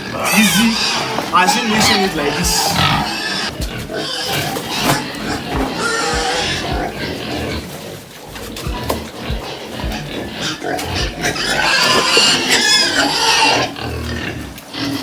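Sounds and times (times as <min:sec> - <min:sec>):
pigs squealing and grunting: 0:00.0 - 0:15.0.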